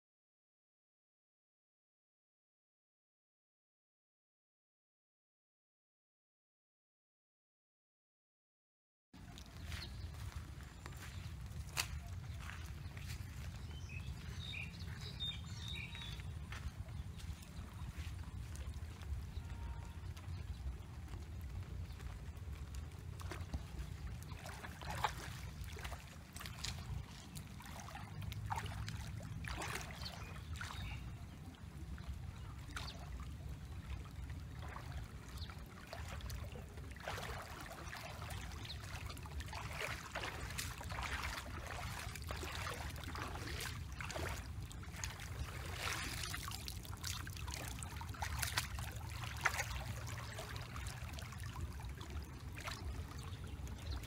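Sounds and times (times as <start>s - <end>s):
muddy water splashing: 9.2s - 54.0s.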